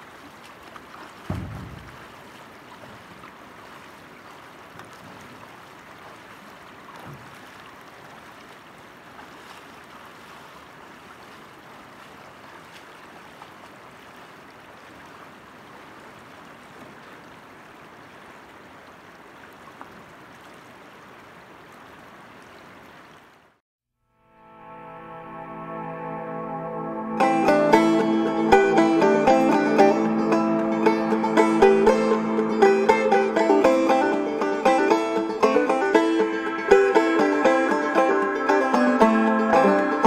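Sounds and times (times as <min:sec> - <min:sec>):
river running over stones: 0:00.0 - 0:23.6, 0:27.3 - 0:40.0.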